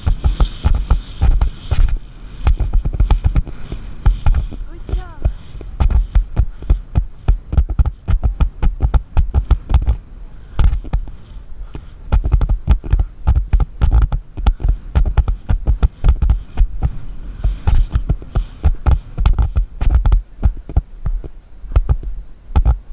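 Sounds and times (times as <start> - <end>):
camera knocking and jolting: 0.0 - 4.6, 5.2 - 10.0, 10.6 - 11.2, 11.8 - 22.8
horse hoofbeats on sand: 0.0 - 10.0, 12.1 - 22.0.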